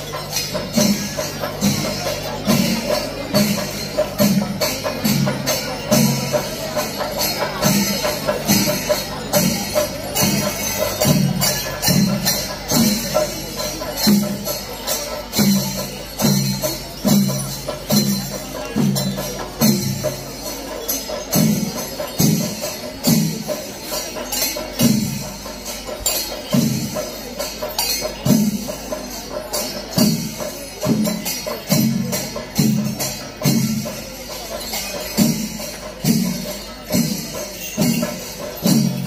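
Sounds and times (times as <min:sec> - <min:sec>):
clashing hand cymbals: 0:00.0 - 0:39.0
drums beating steady pulse: 0:00.0 - 0:39.0.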